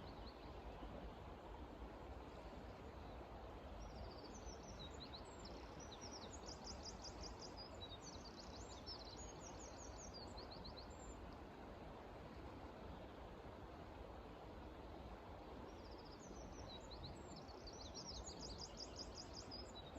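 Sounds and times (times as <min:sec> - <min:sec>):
low background noise: 0:00.0 - 0:19.9.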